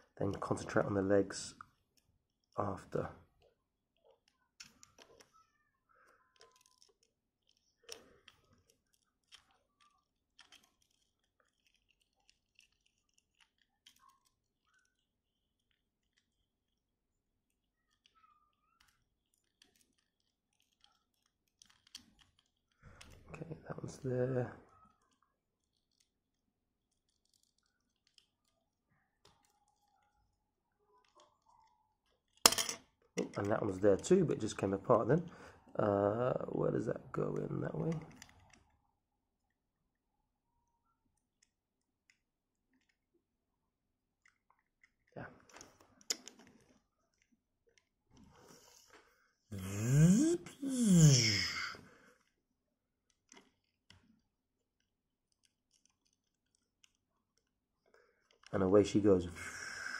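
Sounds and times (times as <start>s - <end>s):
small plastic parts clicking: 0.3s - 34.4s, 37.3s - 38.8s, 41.0s - 43.1s, 44.1s - 49.0s, 53.0s - 59.2s.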